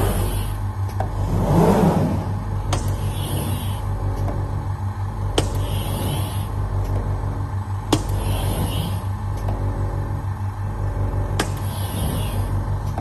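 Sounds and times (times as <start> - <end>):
glass cutting machine hum: 0.0 - 13.0.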